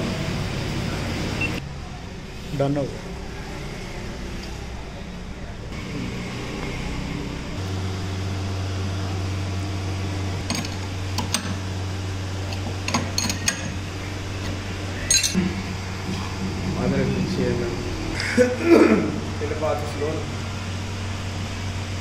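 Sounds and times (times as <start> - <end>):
machine motor humming: 3.2 - 22.0.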